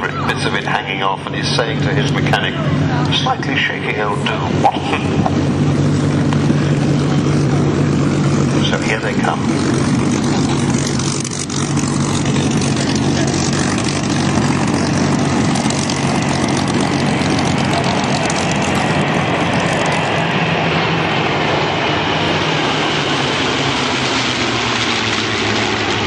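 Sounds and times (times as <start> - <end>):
propeller aircraft engines droning: 0.0 - 26.0.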